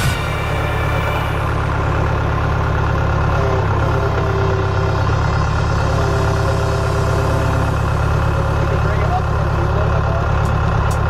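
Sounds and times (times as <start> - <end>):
higher engine tone: 0.0 - 11.0
tractor engine running: 0.0 - 11.0.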